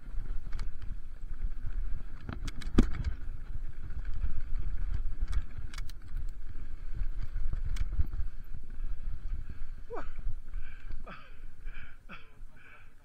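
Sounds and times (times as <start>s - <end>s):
wind on microphone: 0.0s - 11.8s
bike clicks and rattles: 0.0s - 12.2s
bike tyres rumbling on dirt: 0.0s - 12.8s.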